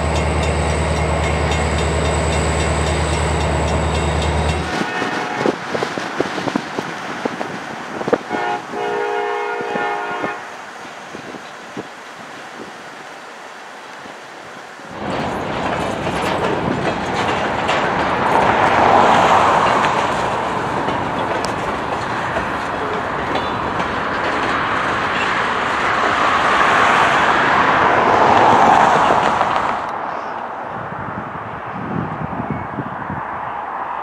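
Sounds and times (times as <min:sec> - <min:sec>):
wheels clacking on rails: 0:00.0 - 0:09.4, 0:10.2 - 0:30.5
freight train rumbling past: 0:00.0 - 0:34.0.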